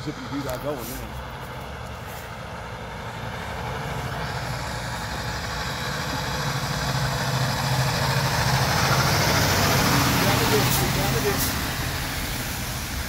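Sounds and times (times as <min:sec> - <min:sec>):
diesel truck engine pulling uphill: 0:00.0 - 0:13.0.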